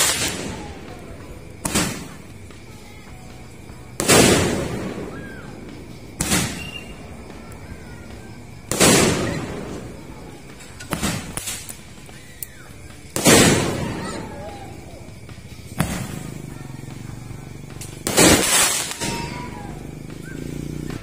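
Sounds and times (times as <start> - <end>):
firework bangs echoing: 0.0 - 21.0
small firework pops: 0.0 - 21.0.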